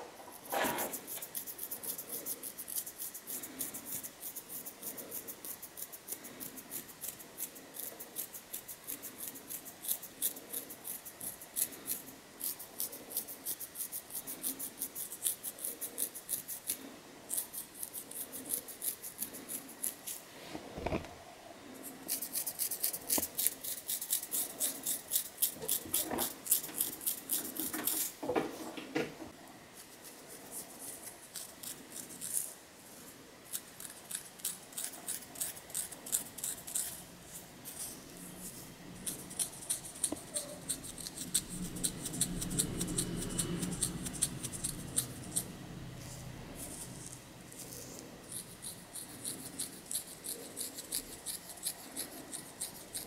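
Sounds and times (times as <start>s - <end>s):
fingernails scratching scalp: 0.3s - 20.2s, 21.8s - 28.1s, 29.8s - 32.5s, 33.5s - 53.0s.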